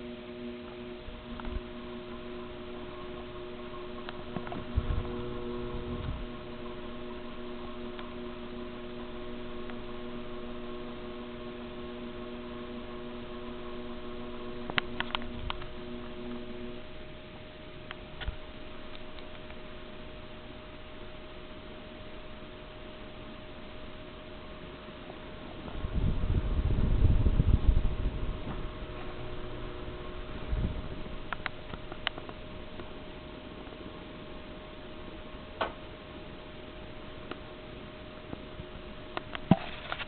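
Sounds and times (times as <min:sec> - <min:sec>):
ceiling fan motor hum: 0:00.0 - 0:40.0.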